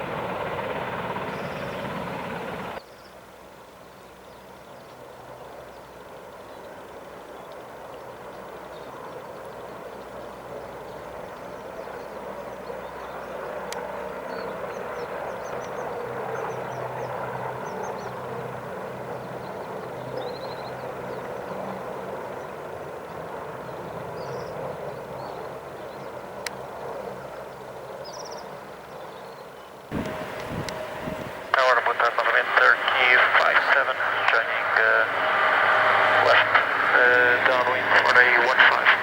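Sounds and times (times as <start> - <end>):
distant aircraft engine drone: 0.0 - 39.0.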